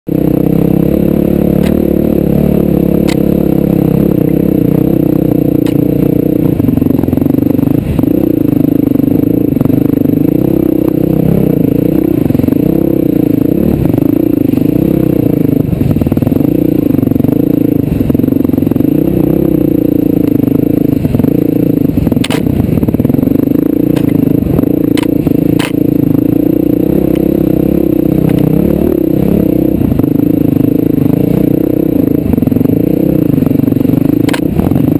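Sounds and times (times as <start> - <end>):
off-road vehicle engine revving: 0.0 - 34.9.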